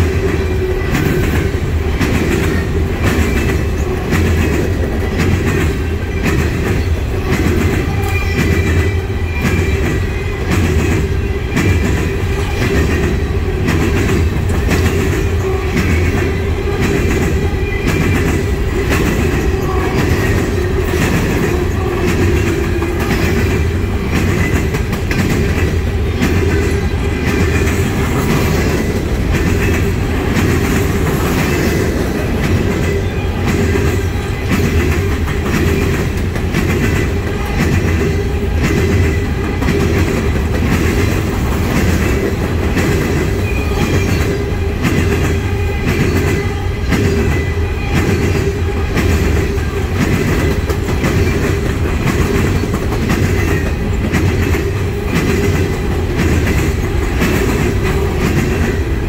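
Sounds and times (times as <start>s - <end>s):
clickety-clack over the track: 0.0s - 59.0s
freight train wheels rumbling: 0.0s - 59.0s.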